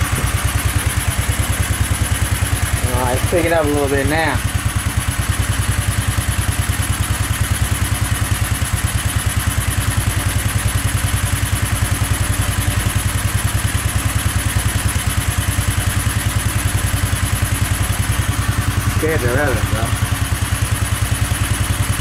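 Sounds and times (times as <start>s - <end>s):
small engine fast idle: 0.0s - 22.0s.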